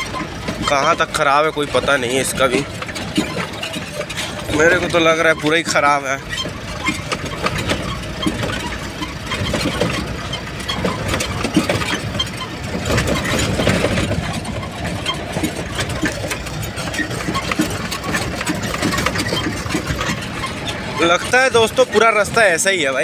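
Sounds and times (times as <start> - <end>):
cab rattling and knocking: 0.0 - 23.0
truck engine running: 0.0 - 23.0.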